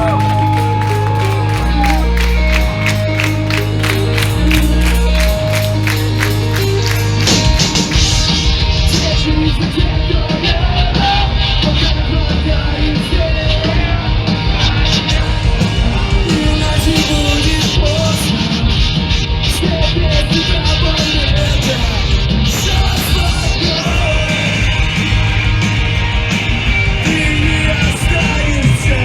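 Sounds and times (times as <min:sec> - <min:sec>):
distorted electric guitars: 0:00.0 - 0:29.0
drums and bass: 0:00.0 - 0:29.0.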